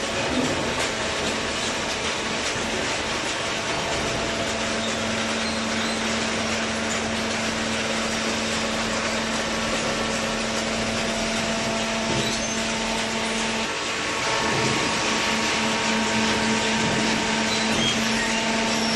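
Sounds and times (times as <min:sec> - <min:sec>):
hydraulic baling machine running: 0:00.0 - 0:18.9.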